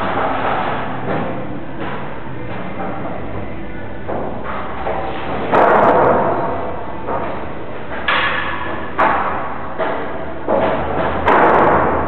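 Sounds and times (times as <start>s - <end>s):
echoing hammering blows: 0.0s - 12.0s.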